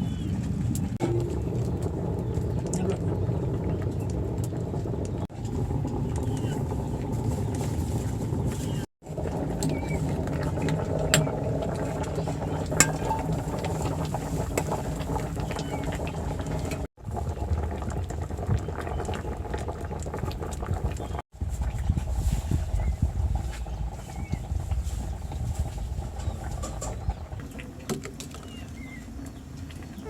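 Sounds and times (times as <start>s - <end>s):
pot bubbling at the boil: 0.1s - 30.0s.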